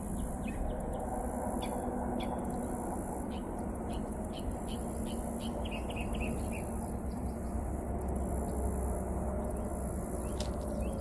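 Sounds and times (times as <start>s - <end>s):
insects chirping and buzzing: 0.0s - 11.0s
steady low rumble: 0.0s - 11.0s.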